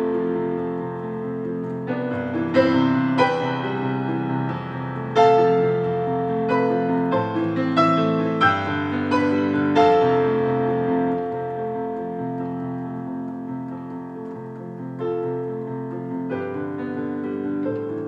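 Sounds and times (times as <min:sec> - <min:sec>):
slow piano piece: 0:00.0 - 0:18.0.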